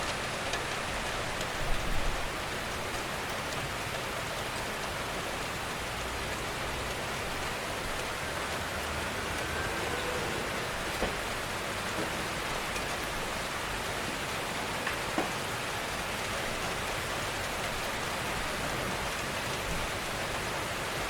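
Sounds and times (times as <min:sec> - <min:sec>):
gentle rain falling: 0:00.0 - 0:21.0.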